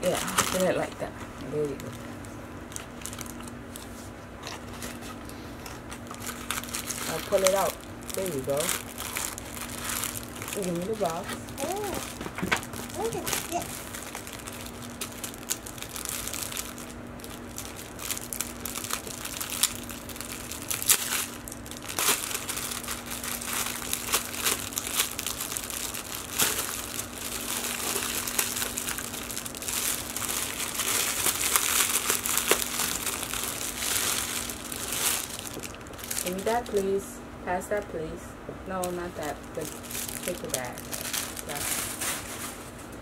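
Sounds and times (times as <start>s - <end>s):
plastic bag crinkling: 0.0s - 36.8s, 38.8s - 42.8s.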